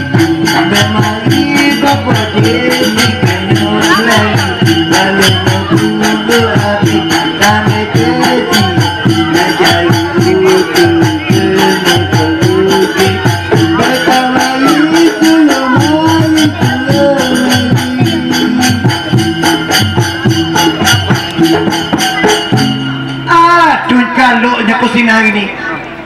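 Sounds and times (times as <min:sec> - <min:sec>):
drum and metallic percussion: 0:00.0 - 0:24.2.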